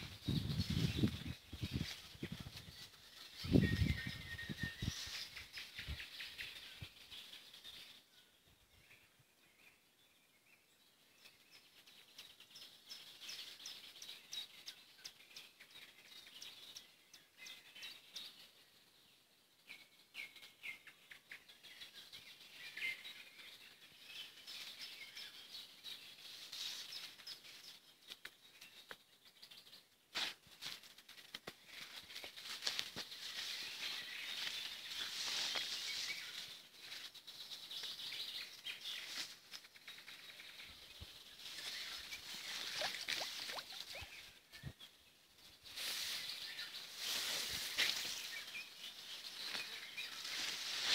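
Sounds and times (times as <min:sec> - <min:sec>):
songbirds chirping and trilling: 0:00.0 - 0:50.9.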